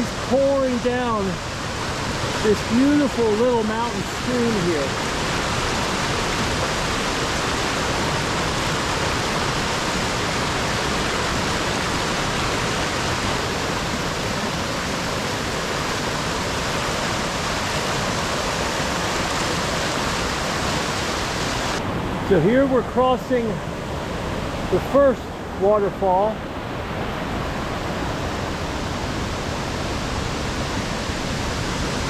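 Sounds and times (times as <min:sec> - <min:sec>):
stream pouring over waterfall: 0:00.0 - 0:26.4.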